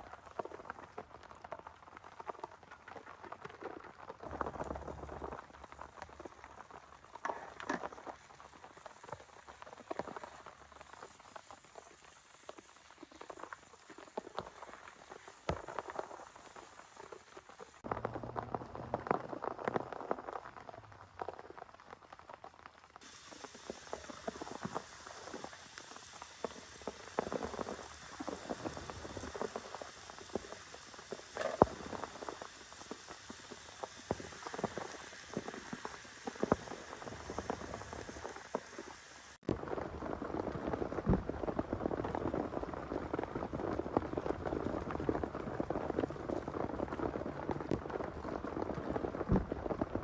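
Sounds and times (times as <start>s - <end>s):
dense rain patter: 0.0s - 50.0s
rain falling: 0.0s - 50.0s
raindrops ticking on surface: 0.0s - 50.0s.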